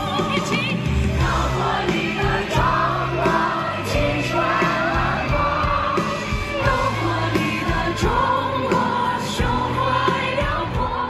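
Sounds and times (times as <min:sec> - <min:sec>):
audience singing along: 0:00.0 - 0:11.0
band backing music: 0:00.0 - 0:11.0.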